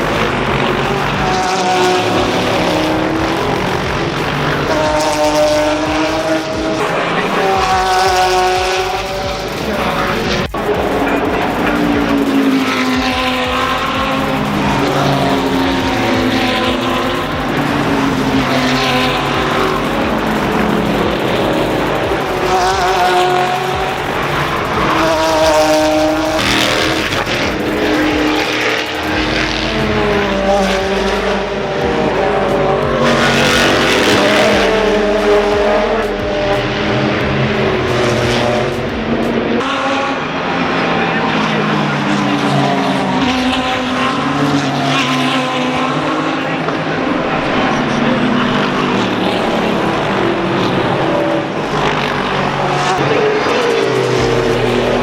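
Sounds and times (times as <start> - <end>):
race car engines revving past: 0.0 - 55.0.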